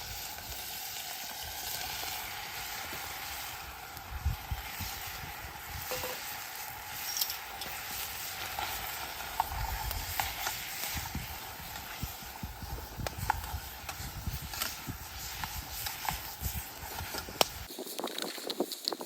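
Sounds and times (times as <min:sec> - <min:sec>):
food sizzling in a pan: 0:00.0 - 0:18.8.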